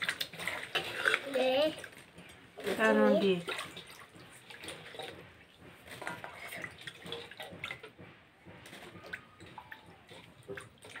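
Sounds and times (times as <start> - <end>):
fruit sloshing in water: 0.0 - 8.0, 8.6 - 11.0.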